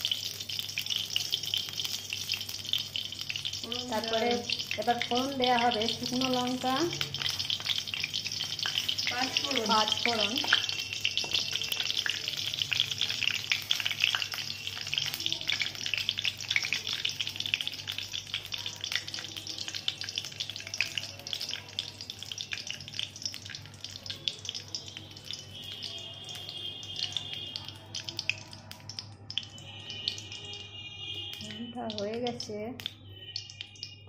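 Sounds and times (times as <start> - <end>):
seeds and chillies crackling in hot oil: 0.0 - 34.0.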